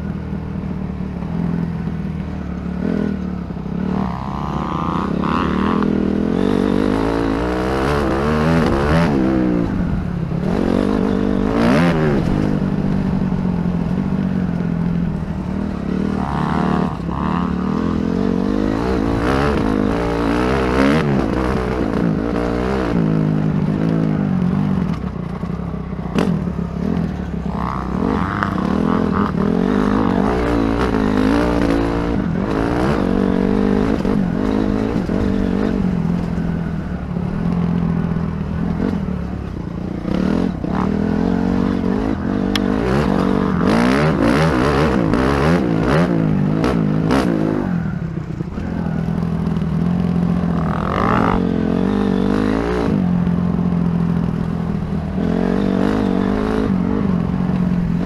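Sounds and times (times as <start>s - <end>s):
dirt bike engine revving: 1.1s - 58.0s.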